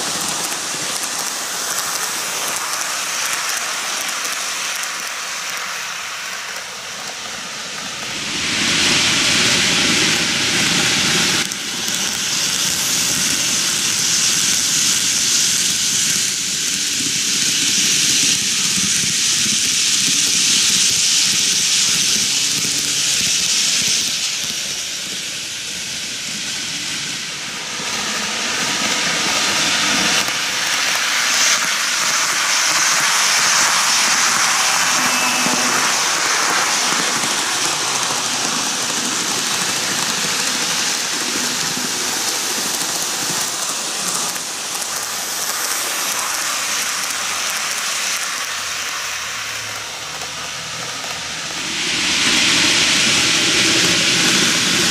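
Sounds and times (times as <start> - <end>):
model train wheels rolling: 0.0 - 54.9.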